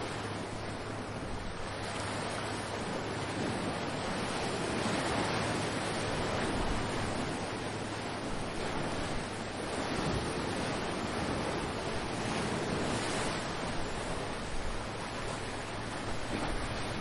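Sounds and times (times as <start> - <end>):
ocean waves washing on shore: 0.0 - 17.0
wind on microphone: 0.0 - 17.0.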